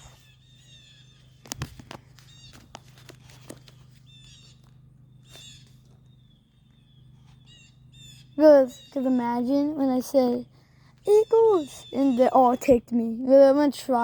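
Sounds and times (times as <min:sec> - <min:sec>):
blue jays calling: 0:00.0 - 0:03.0, 0:03.8 - 0:14.0
low hum: 0:00.0 - 0:13.2.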